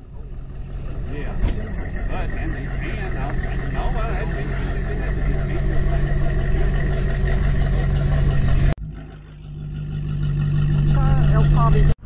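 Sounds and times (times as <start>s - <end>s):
car engine low note: 0.0s - 12.0s.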